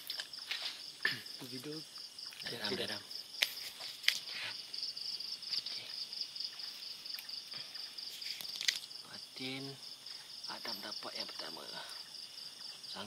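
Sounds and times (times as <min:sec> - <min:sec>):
night insects chirping: 0:00.0 - 0:13.0.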